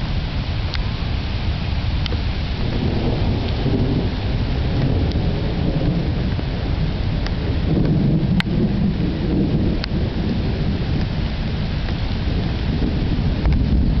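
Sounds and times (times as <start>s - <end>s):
stormy weather rumble: 0.0s - 14.0s.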